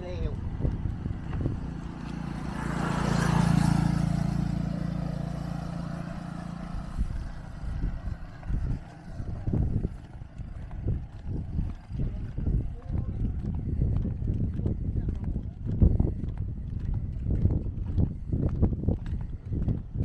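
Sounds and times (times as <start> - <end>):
engine passing: 0.0 - 20.0.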